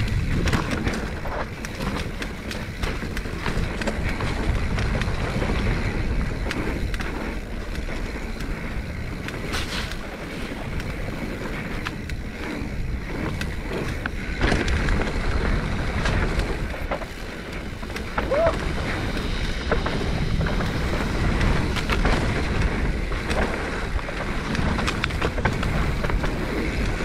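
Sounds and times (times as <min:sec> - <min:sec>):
bike clicks and rattles: 0:00.0 - 0:27.0
tires rolling on dirt: 0:00.0 - 0:27.0
wind buffeting microphone: 0:00.0 - 0:27.0.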